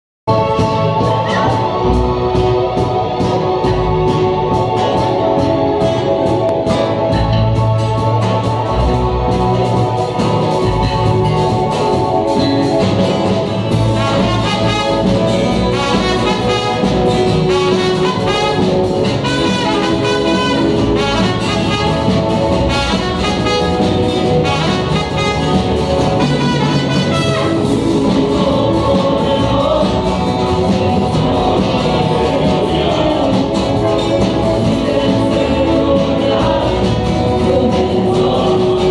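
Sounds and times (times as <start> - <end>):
electric bass: 0.3 - 38.9
group of voices singing: 0.3 - 38.9
guitars playing: 0.3 - 38.9.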